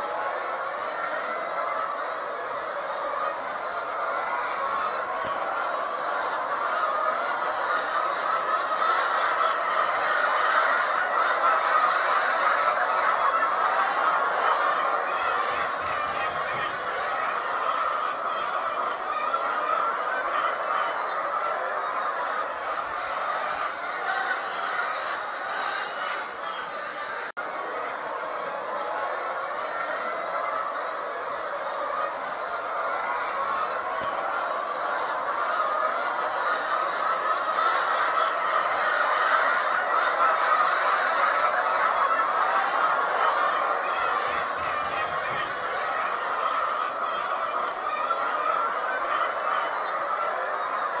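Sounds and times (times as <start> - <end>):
hens clucking: 0.0 - 51.0.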